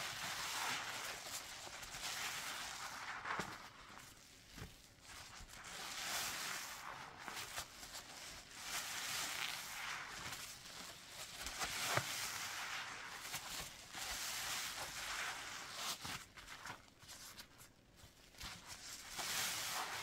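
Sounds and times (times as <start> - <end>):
sponge squishing in soapy lather: 0.0 - 20.0.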